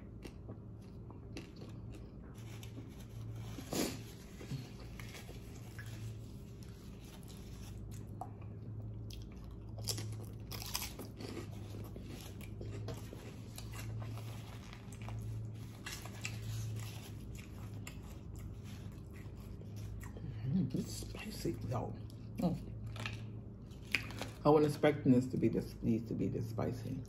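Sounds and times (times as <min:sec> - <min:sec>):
chewing crispy pork skins: 0:00.0 - 0:27.0
low steady hum: 0:00.0 - 0:27.0.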